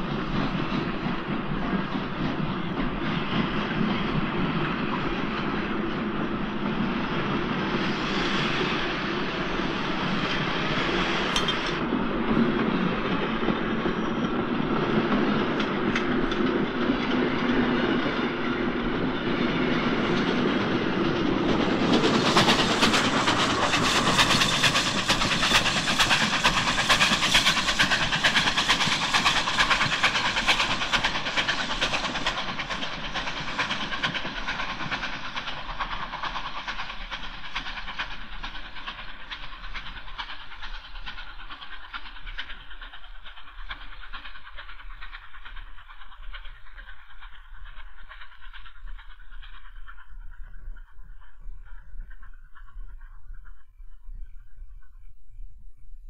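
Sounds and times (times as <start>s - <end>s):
train wheel noise: 0.0s - 55.0s
steam locomotive exhaust beats: 0.0s - 55.1s.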